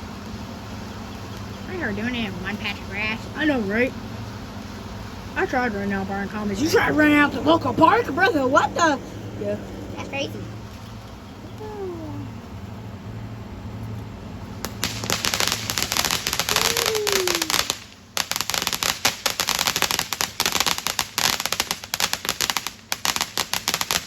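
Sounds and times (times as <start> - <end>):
fireworks crackling: 0.0 - 13.0, 14.3 - 24.0.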